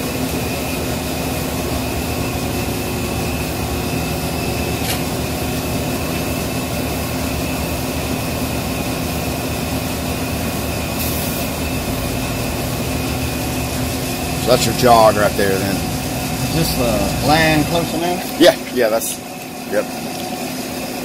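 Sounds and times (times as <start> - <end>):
machine motors humming: 0.0 - 21.0
constant whine: 0.1 - 21.0.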